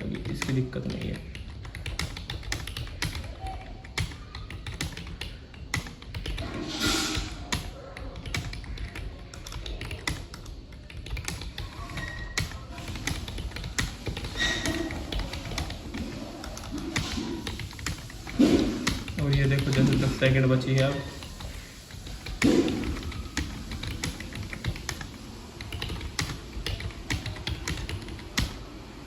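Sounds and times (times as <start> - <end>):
keyboard typing: 0.0 - 28.8.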